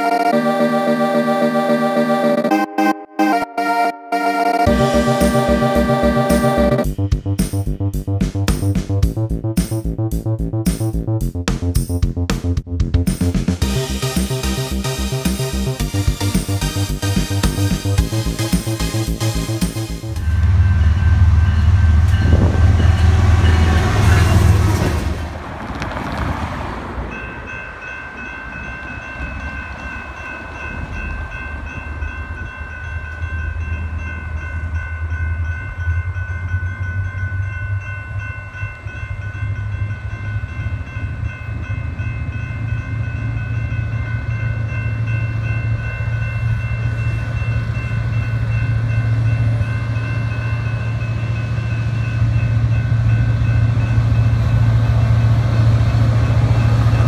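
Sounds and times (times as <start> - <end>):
crossing warning bells ringing: 0.0 - 12.3, 13.2 - 26.0, 26.7 - 57.0
diesel locomotive rumble: 4.7 - 57.0.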